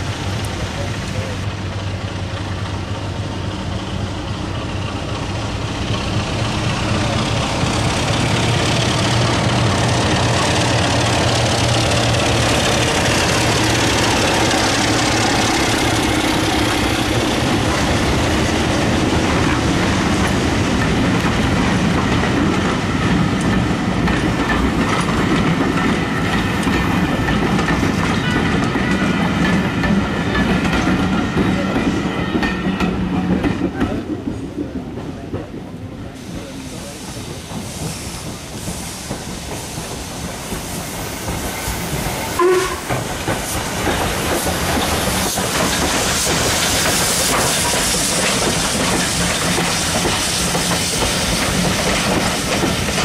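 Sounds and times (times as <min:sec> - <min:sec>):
train wheels clattering on rails: 0:00.0 - 0:53.0.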